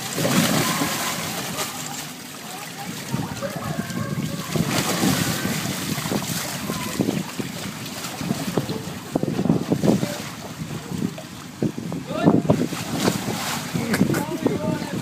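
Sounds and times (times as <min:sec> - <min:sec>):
water sloshing: 0:00.0 - 0:15.0.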